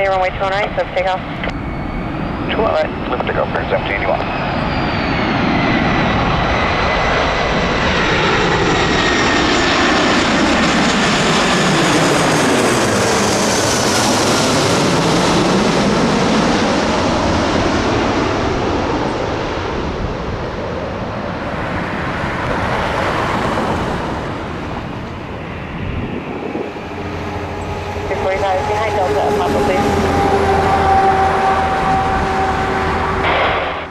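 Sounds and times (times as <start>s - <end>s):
jet airliner passing by: 0.0s - 33.9s.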